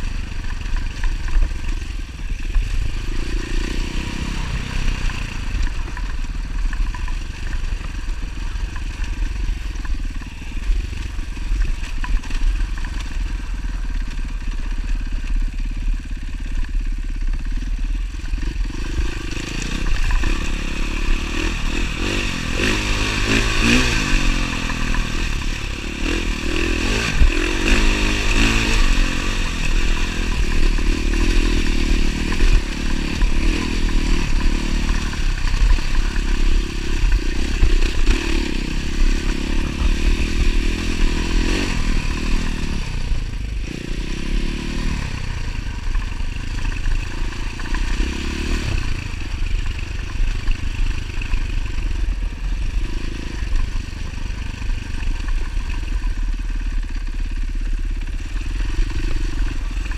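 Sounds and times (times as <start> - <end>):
dirt bike engine revving: 0.0 - 15.4, 17.5 - 57.0, 57.7 - 59.9.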